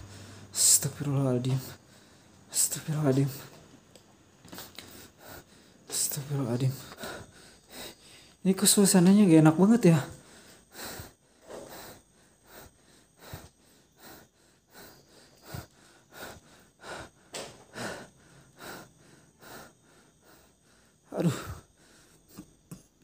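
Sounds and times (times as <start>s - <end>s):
person breathing heavily: 0.0s - 0.8s, 1.4s - 3.6s, 4.5s - 8.4s, 10.0s - 22.9s.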